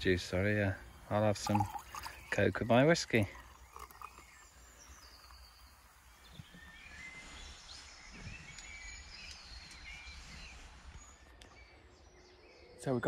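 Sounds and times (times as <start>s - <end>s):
small birds chirping and singing: 0.0s - 13.0s.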